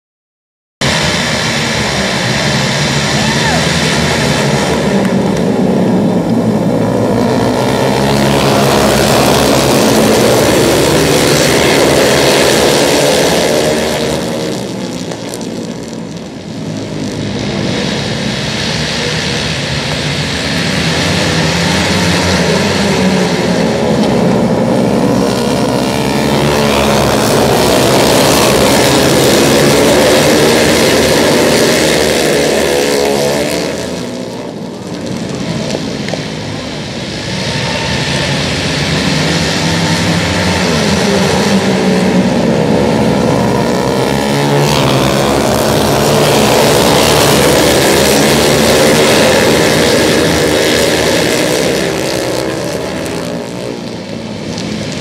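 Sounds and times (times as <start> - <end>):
racing motorcycles at full throttle: 0.8 - 55.0.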